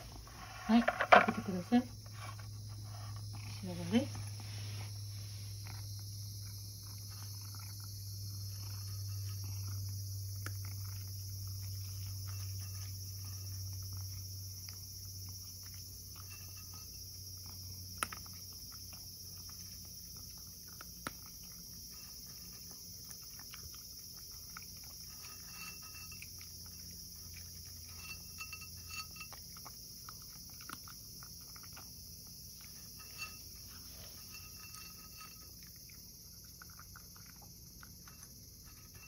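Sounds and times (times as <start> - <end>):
cat crunching dry kibble: 5.5 - 39.0.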